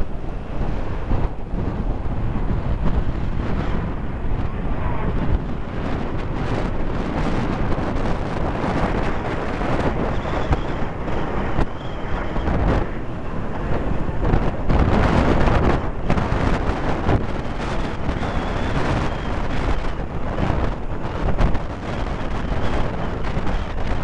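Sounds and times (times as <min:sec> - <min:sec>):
jets passing overhead: 0:00.0 - 0:23.3
wind buffeting microphone: 0:00.0 - 0:24.0.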